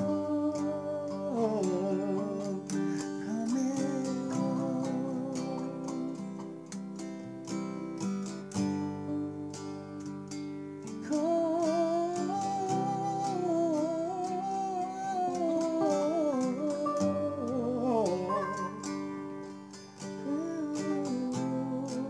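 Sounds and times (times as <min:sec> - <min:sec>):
acoustic guitar strummed chords: 0:00.0 - 0:22.0
sliding guitar lead melody: 0:00.0 - 0:22.0.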